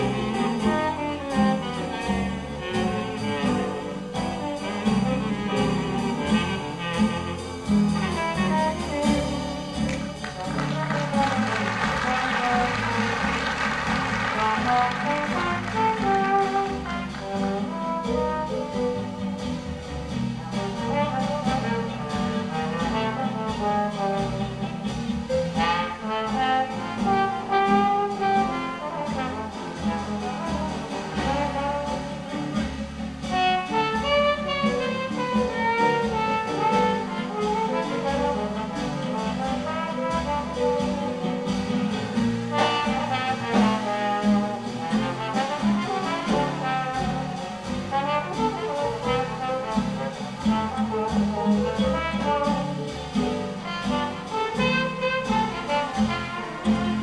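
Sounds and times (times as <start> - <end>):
band rhythm section: 0.0 - 57.0
stepping bass notes: 0.0 - 57.0
trombone jazz solo: 0.0 - 57.0.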